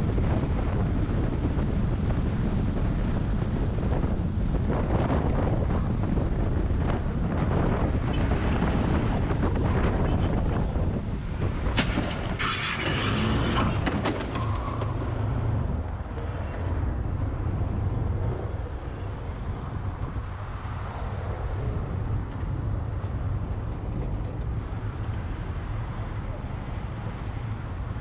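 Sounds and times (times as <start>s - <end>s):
wind noise: 0.0s - 28.0s.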